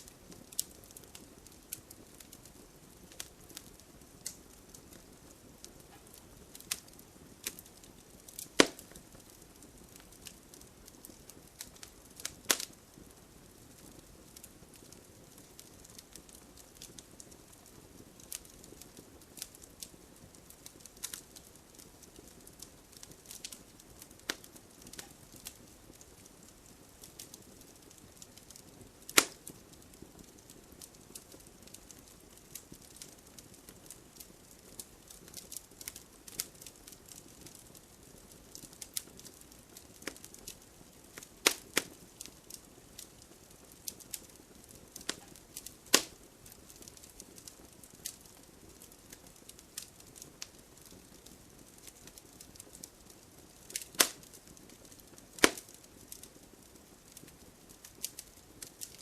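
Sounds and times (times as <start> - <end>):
loud fire pops: 0.0 - 59.0
soft hiss: 0.0 - 59.0
wood fire crackling: 0.0 - 59.0.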